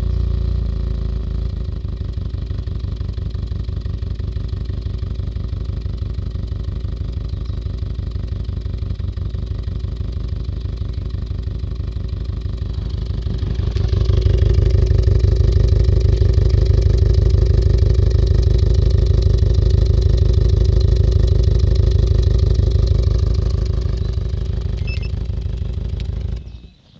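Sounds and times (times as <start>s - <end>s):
car engine misfiring: 1.4s - 26.6s.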